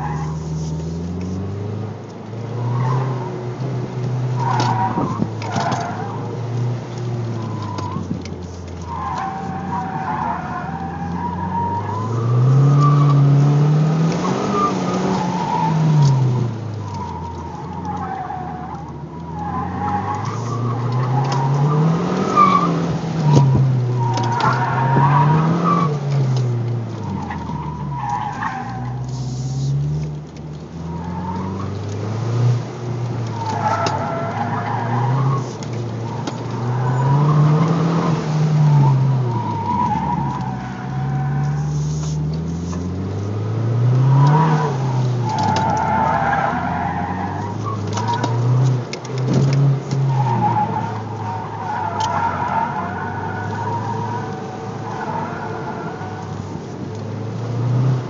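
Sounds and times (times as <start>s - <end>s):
car engine revving: 0.0s - 58.0s
tires squealing: 0.0s - 58.0s.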